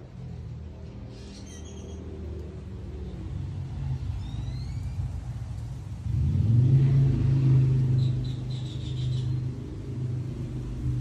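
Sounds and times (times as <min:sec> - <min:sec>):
motor vehicle engine rumble: 0:00.0 - 0:11.0.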